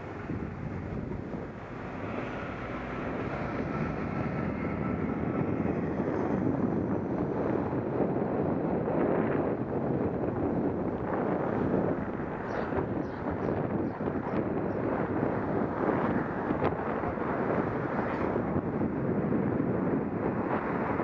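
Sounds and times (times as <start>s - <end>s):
street traffic: 0.0s - 21.0s
wind on microphone: 0.0s - 21.0s.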